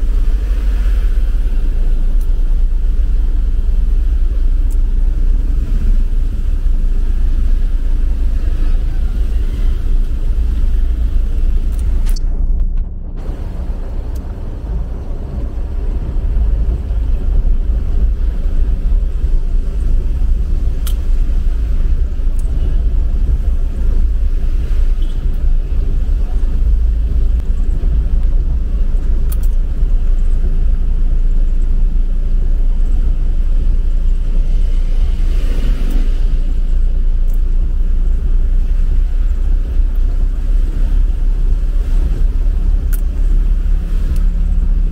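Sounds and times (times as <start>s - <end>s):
truck engine and road rumble: 0.0s - 44.9s.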